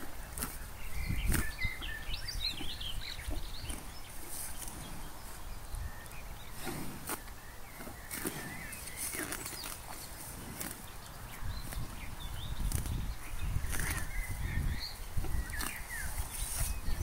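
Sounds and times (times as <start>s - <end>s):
cow tearing grass: 0.0s - 5.4s, 6.5s - 17.0s.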